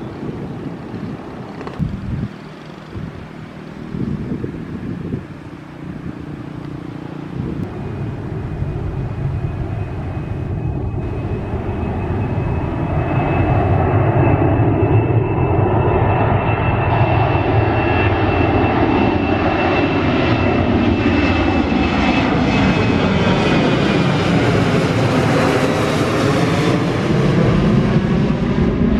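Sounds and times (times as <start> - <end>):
jet engines roaring with whine: 0.0 - 28.9.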